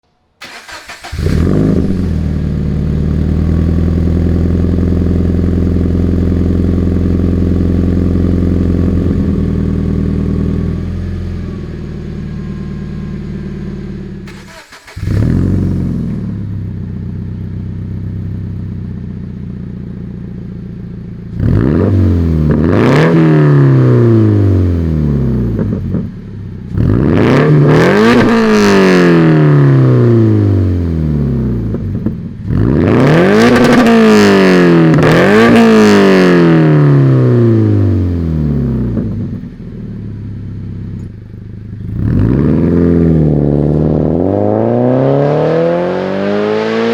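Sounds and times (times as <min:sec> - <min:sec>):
car engine starting and revving: 0:00.4 - 0:18.3, 0:21.3 - 0:26.1, 0:26.7 - 0:39.5, 0:41.8 - 0:46.9.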